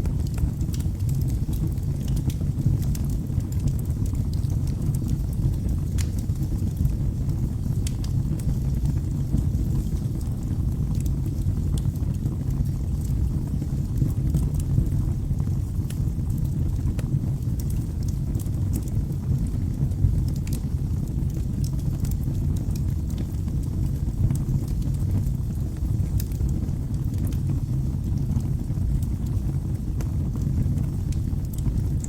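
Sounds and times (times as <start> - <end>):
logs crackling and popping: 0.0 - 32.0
low rumble of flames: 0.0 - 32.0.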